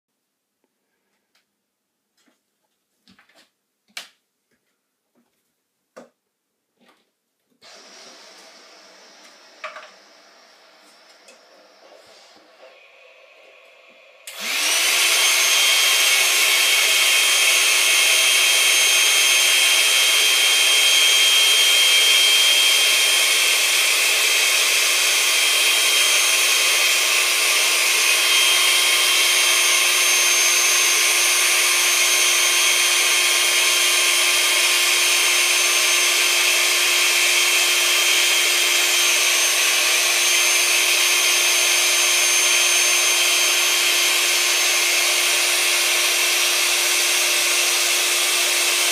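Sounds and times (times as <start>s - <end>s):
electric air pump whining: 7.6s - 48.9s.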